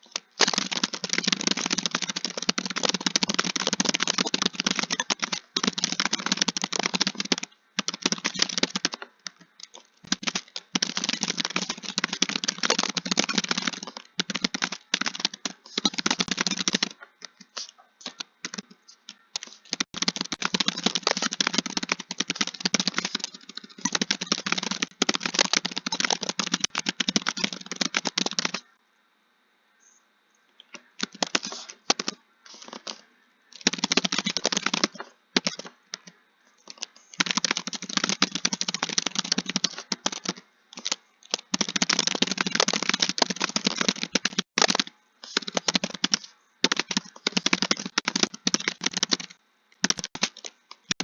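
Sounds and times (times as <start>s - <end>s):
fast typing on a keyboard: 0.0s - 28.7s, 31.0s - 33.0s, 33.6s - 51.0s.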